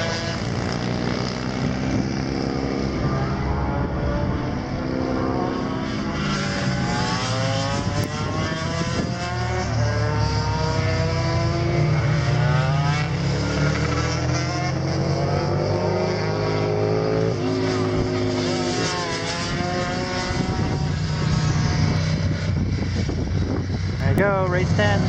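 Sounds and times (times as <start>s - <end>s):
racing motorcycle engines revving: 0.0s - 25.0s.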